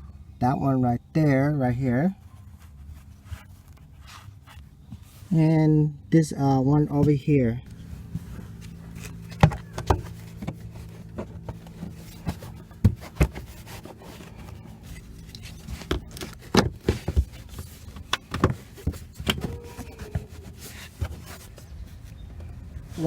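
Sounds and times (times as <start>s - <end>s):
plastic rubbing: 2.2s - 5.4s, 7.6s - 23.0s.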